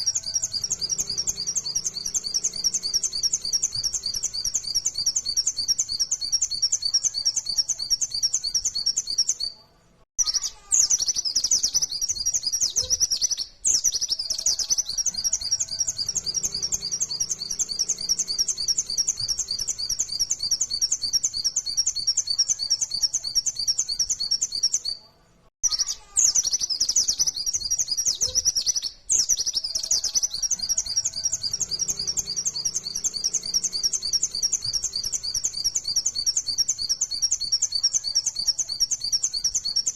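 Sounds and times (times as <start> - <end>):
bird singing high chattering notes: 0.0 - 9.6, 10.2 - 25.0, 25.6 - 39.9.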